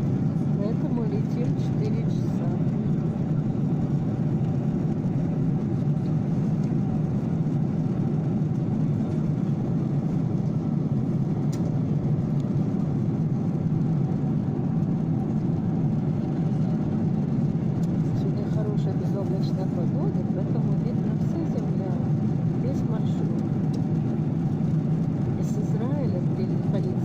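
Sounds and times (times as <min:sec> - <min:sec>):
airliner cabin engine rush: 0:00.0 - 0:27.0.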